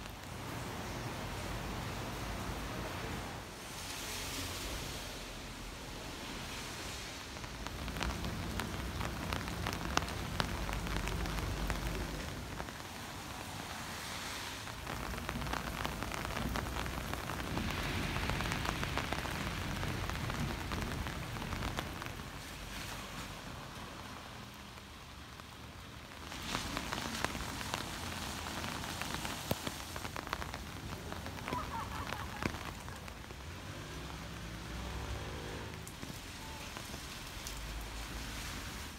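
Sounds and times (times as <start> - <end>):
rain pattering on surfaces: 0.0 - 38.9.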